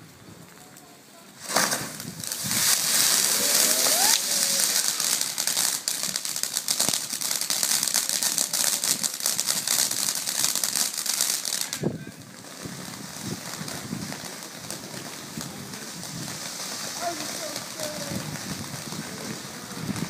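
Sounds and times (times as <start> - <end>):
firework fountain crackling: 0.0 - 20.0.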